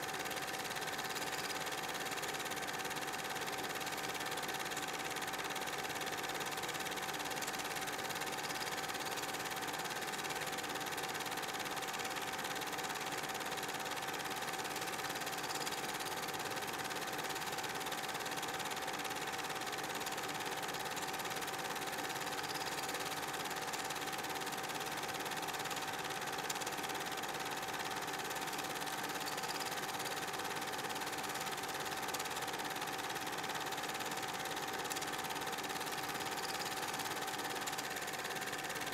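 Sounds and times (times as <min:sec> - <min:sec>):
film projector whirring and clattering: 0:00.0 - 0:38.9.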